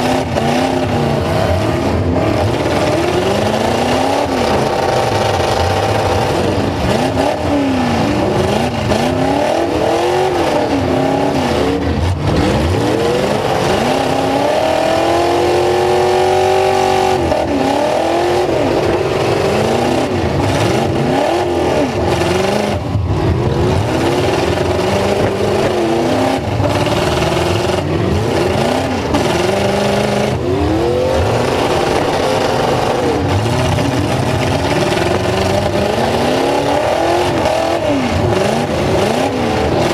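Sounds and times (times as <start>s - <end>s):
truck engines revving hard: 0.0s - 39.9s.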